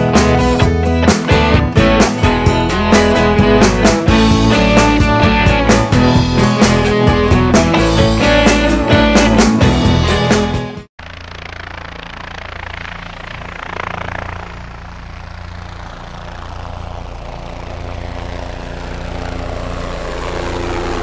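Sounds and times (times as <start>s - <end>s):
helicopter flying past: 0.0s - 21.0s.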